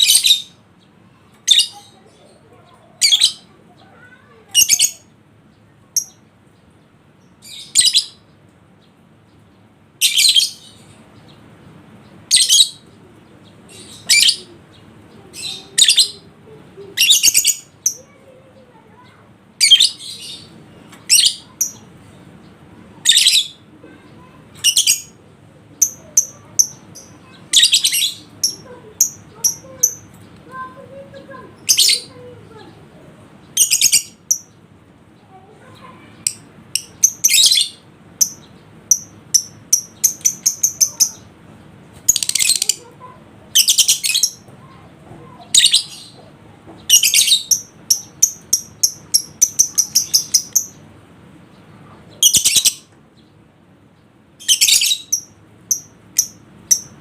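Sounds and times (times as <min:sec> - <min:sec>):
lovebirds chirping shrilly: 0:00.0 - 0:00.7, 0:01.4 - 0:05.1, 0:07.2 - 0:08.4, 0:10.0 - 0:11.4, 0:12.1 - 0:18.2, 0:19.6 - 0:25.2, 0:25.8 - 0:32.8, 0:33.4 - 0:34.6, 0:35.6 - 0:52.9, 0:54.4 - 0:57.0.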